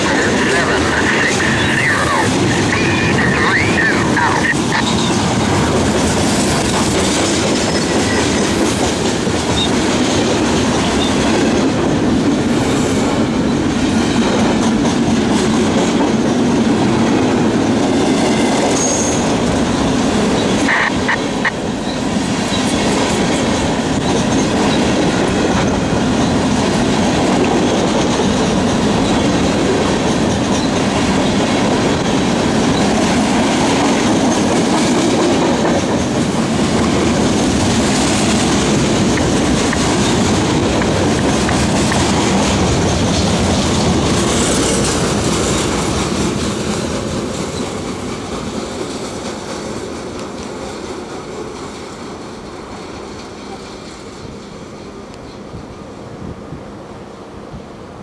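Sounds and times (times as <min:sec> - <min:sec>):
train wheels rumbling on rails: 0:00.0 - 0:58.0
rhythmic clickety-clack: 0:04.4 - 0:17.0, 0:17.6 - 0:54.3.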